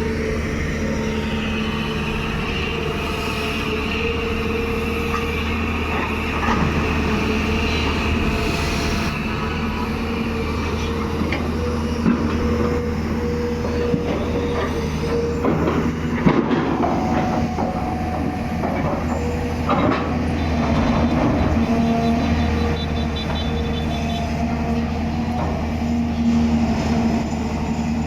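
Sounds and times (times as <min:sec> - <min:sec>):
engine whine: 0:00.0 - 0:28.0
excavator diesel engine running: 0:00.0 - 0:28.0.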